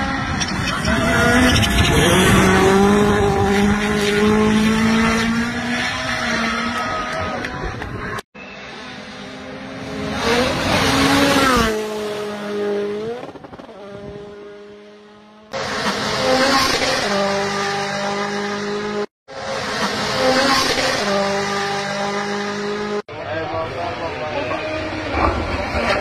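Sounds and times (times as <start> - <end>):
rally engine at high revs: 0.0 - 26.0.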